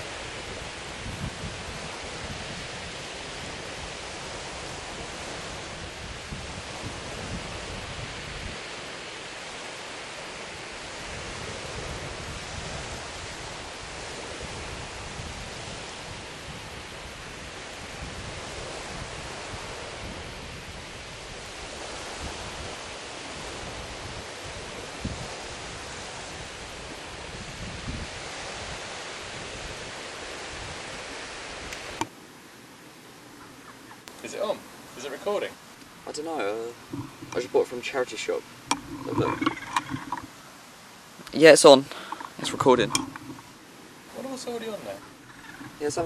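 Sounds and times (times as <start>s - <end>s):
wind noise on microphone: 0.0s - 32.1s, 36.7s - 40.5s, 41.4s - 43.8s, 44.5s - 46.0s
waves on a shingle beach: 0.0s - 46.0s.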